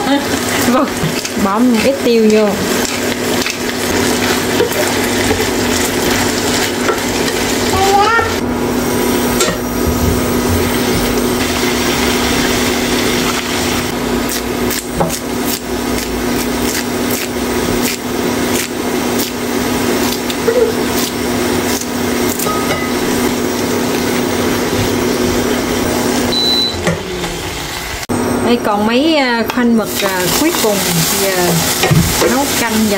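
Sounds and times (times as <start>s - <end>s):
food sizzling in a pan: 0.0s - 26.3s, 29.8s - 32.9s
steady hum: 0.0s - 32.9s.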